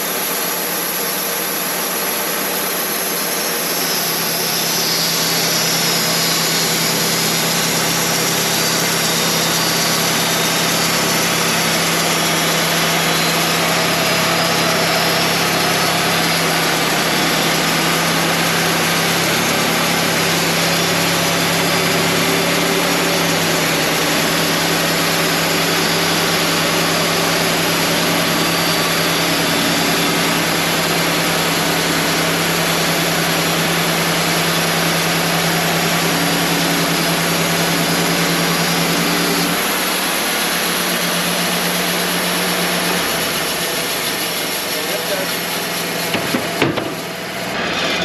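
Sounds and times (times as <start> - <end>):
band saw cutting: 0.0 - 48.0
sawmill engine humming: 0.0 - 48.0.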